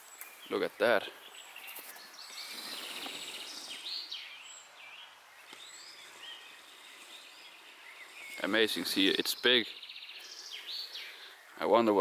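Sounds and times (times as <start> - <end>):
faint outdoor rustle: 0.0 - 12.0
songbirds chirping: 0.0 - 12.0.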